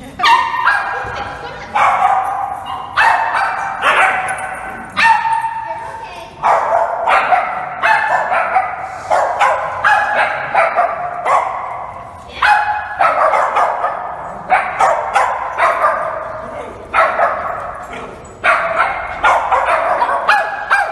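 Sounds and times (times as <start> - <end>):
dog barking: 0.2 - 20.9.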